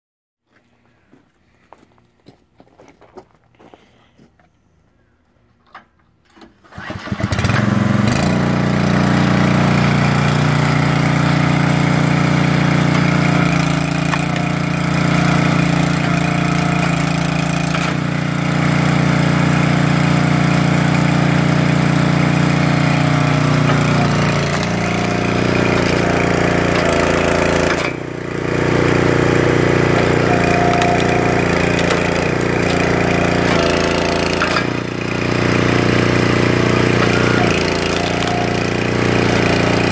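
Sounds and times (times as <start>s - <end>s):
small gasoline engine running: 6.7s - 39.9s.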